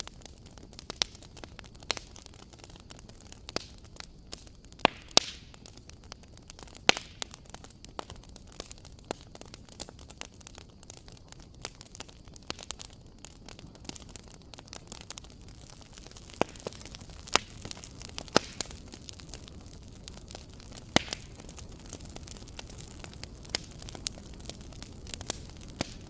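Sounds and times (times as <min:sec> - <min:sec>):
fire hissing: 0:00.0 - 0:26.0
wood fire crackling: 0:00.0 - 0:26.0.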